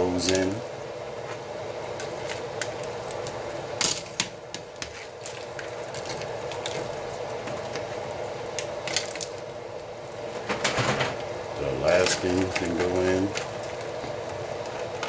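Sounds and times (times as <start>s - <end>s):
pot boiling: 0.0s - 15.0s.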